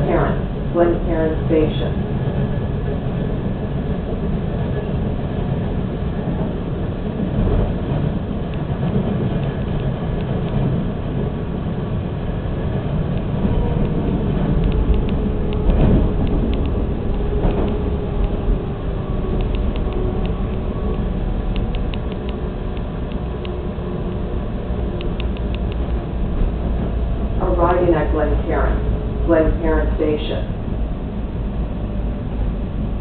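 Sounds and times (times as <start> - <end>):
subway train rumbling on track: 0.0 - 33.0.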